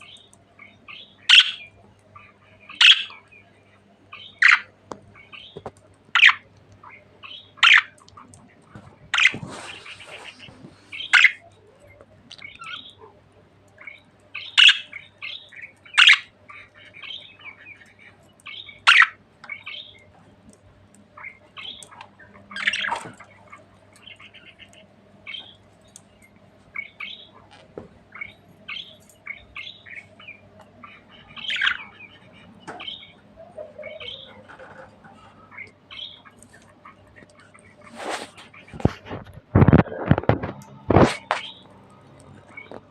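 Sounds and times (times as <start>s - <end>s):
budgerigars chattering: 0.0s - 3.5s, 4.1s - 8.4s, 9.1s - 11.6s, 12.3s - 13.1s, 13.8s - 20.2s, 21.0s - 42.9s
faint steady hum: 0.0s - 42.9s.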